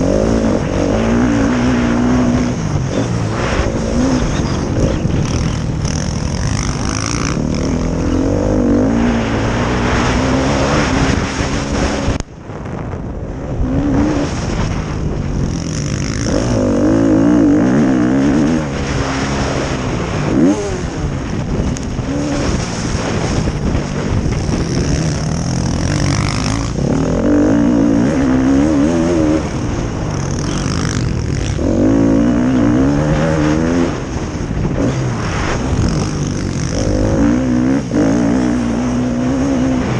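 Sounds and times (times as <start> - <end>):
motocross bike engines revving: 0.0 - 12.3, 13.2 - 39.9.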